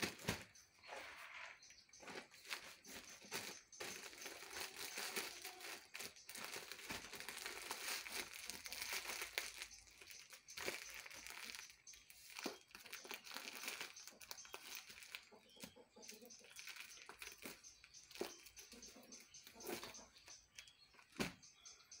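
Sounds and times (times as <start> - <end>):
plastic bag crinkling and rustling: 0.0 - 0.6, 2.0 - 20.0.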